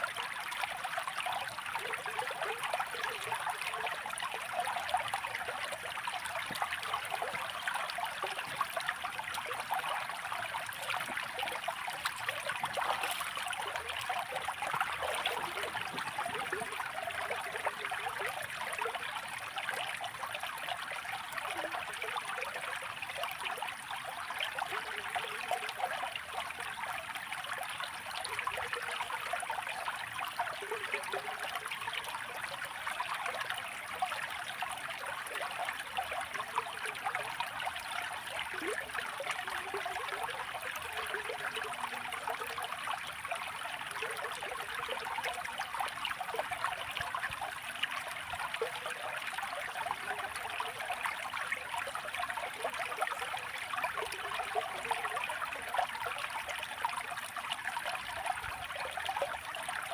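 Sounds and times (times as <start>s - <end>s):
small stream trickling: 0.0s - 59.9s.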